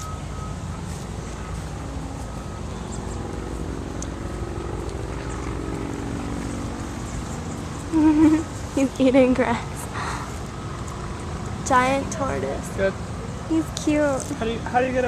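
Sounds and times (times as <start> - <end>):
pitched hum: 0.0 - 14.6
low engine drone: 0.0 - 15.0.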